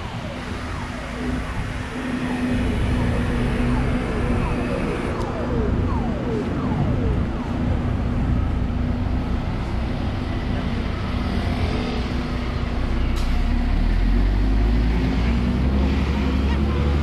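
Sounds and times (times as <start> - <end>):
bus and car engines running: 0.0 - 17.0.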